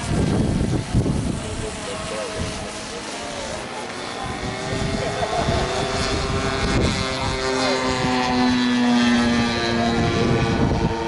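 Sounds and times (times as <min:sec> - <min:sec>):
model aircraft engine drone: 0:00.0 - 0:11.0.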